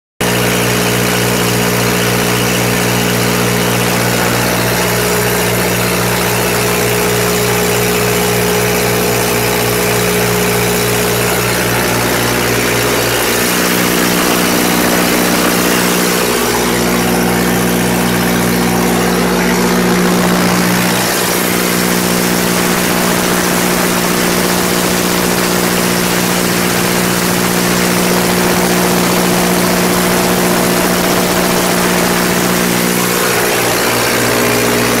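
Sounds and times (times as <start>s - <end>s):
generator engine droning: 0.2s - 35.0s.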